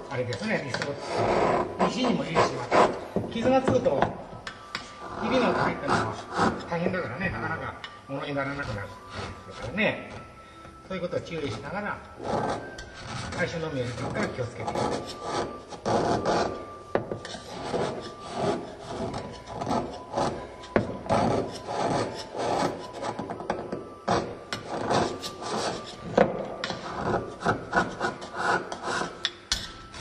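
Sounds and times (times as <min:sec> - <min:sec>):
steel chisel scraping stone: 0:00.2 - 0:10.3, 0:11.4 - 0:30.0.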